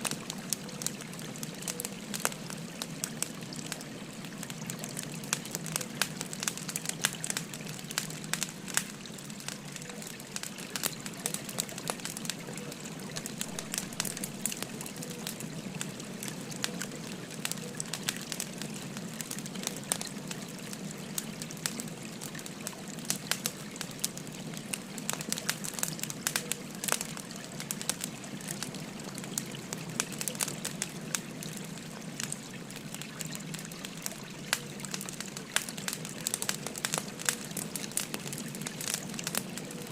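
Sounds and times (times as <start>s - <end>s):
stream babbling: 0.0s - 39.9s
wood fire crackling: 0.0s - 39.9s.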